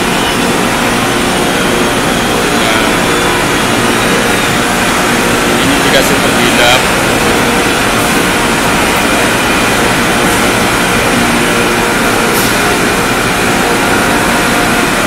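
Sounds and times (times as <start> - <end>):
conveyor belt machinery running: 0.0 - 15.0.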